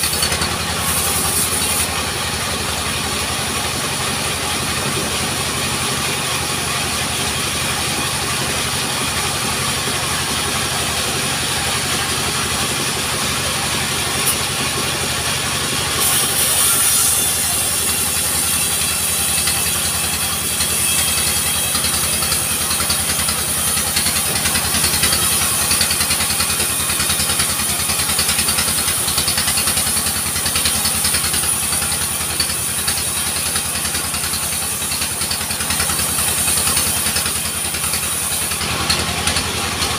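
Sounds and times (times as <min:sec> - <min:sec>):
portable sawmill engine running: 0:00.0 - 0:39.9
saw cutting log: 0:00.0 - 0:39.9.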